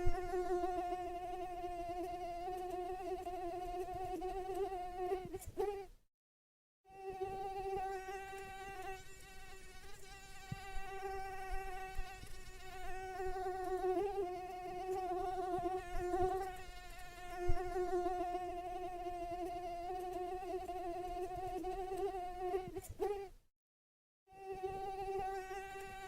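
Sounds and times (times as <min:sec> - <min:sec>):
mosquito whine: 0:00.0 - 0:05.9, 0:06.9 - 0:23.3, 0:24.3 - 0:26.0.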